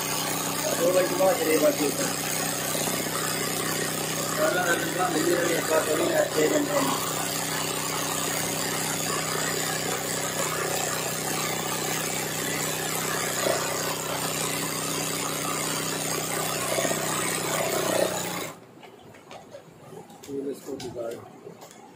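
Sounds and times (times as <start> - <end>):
sewing machine stitching: 0.0 - 18.6.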